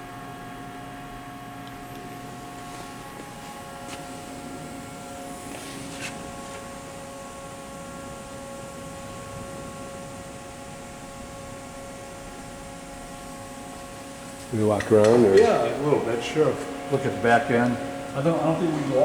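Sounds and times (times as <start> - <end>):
electrical hum and hiss: 0.0 - 19.0
faint machine whining tones: 0.0 - 19.0.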